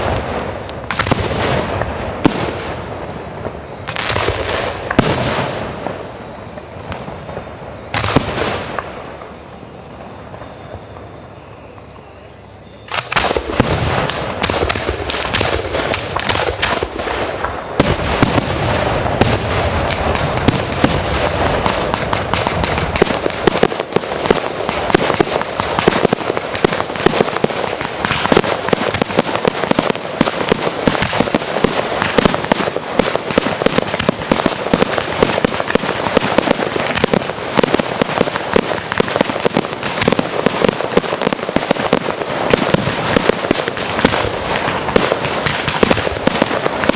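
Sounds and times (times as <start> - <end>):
fireworks deep booms: 0.0 - 11.4, 12.9 - 46.9
fireworks crackling pops: 0.0 - 12.1, 12.8 - 46.9.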